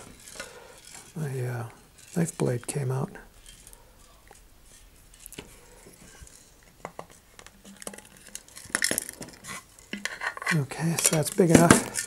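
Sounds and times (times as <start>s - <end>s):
knife scraping plastic: 0.0s - 12.0s.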